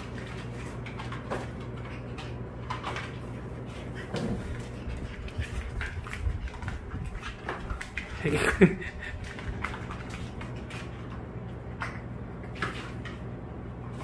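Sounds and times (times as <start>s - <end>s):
claws tapping and scraping floor: 0.0s - 13.3s.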